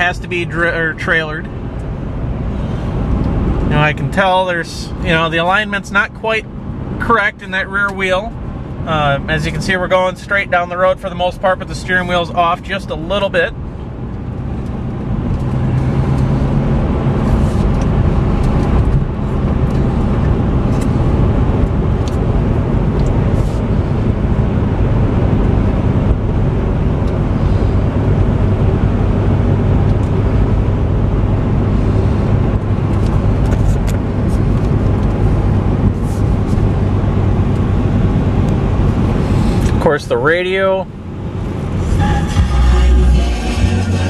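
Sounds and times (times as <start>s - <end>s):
car engine running steadily: 0.0s - 44.0s
tyre and road noise: 0.0s - 44.0s.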